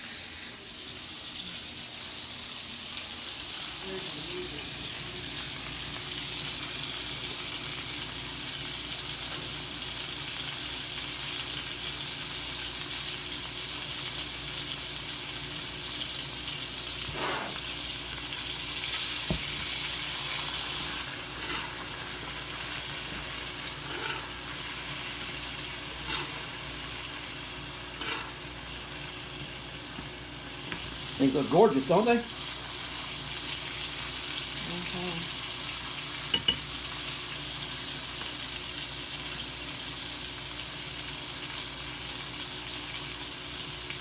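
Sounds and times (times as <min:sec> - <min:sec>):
steaks sizzling in a skillet: 0:00.0 - 0:44.0.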